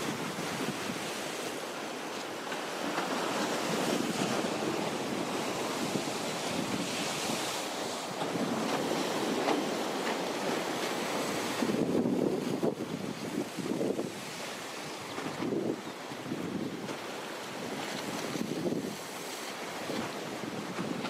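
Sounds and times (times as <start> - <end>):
wind buffeting microphone: 0.0 - 1.5, 3.0 - 21.0
waves breaking against concrete: 0.0 - 21.0.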